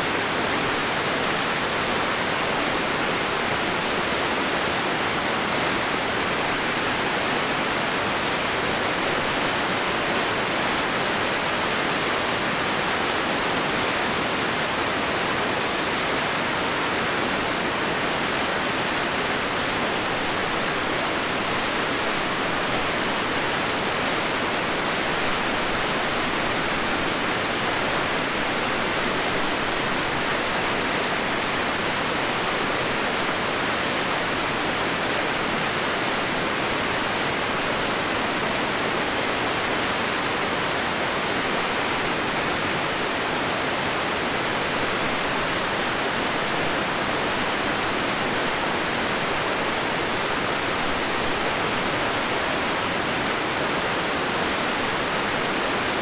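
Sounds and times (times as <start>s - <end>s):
river rushing over falls: 0.0s - 56.0s.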